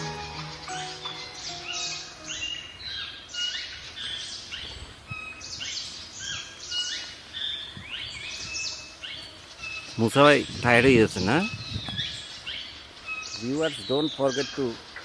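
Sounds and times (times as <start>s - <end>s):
birds chirping and whistling: 0.0s - 8.8s, 9.6s - 14.6s.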